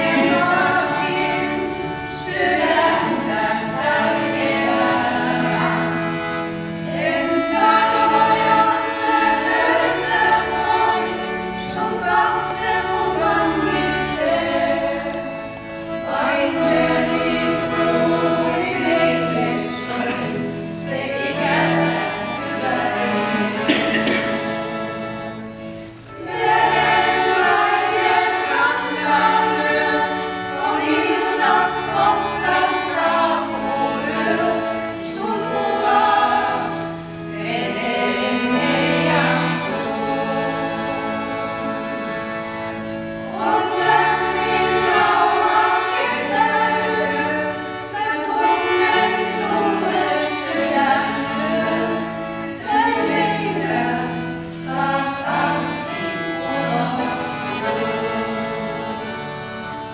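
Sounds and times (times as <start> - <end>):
women's vocal group singing: 0.0 - 24.5, 26.2 - 42.2, 43.3 - 59.2
piano accordion: 0.0 - 59.9.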